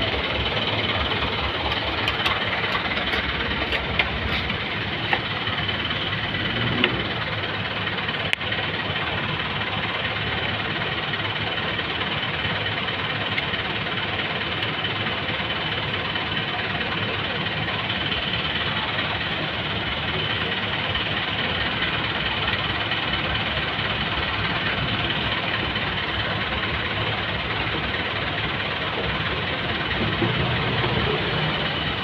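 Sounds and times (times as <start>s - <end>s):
engine running with high whine: 0.0s - 32.0s.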